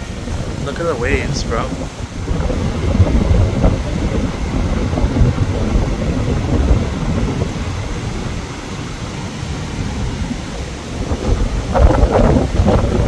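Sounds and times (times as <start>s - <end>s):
choppy surf rushing: 0.0s - 13.0s
wind buffeting microphone: 0.0s - 13.0s.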